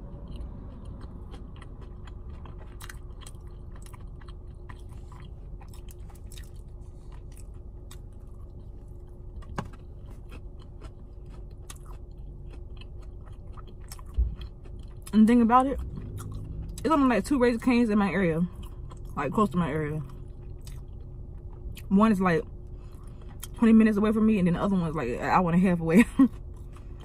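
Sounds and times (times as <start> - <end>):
person chewing fried food: 0.0 - 16.8, 18.5 - 19.2, 20.0 - 23.6, 26.3 - 27.0
faint steady hum: 0.0 - 27.0.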